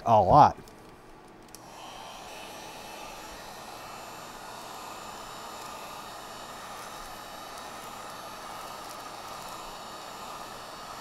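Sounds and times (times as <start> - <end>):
heat gun fan whooshing: 0.7 - 11.0.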